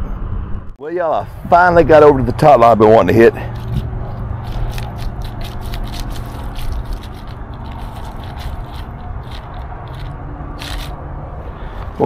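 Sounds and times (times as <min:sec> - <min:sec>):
low steady rumble: 0:00.0 - 0:11.8
ground cover scraping and crackling: 0:01.2 - 0:11.0.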